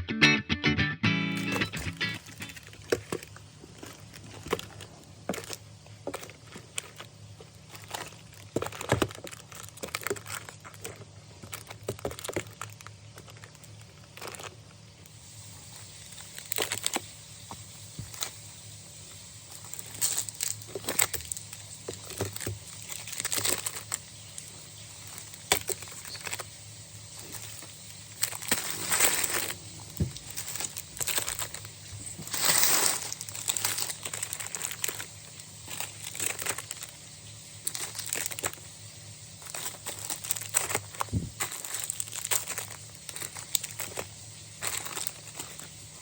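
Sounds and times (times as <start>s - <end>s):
plastic packets crinkling: 1.4s - 46.0s.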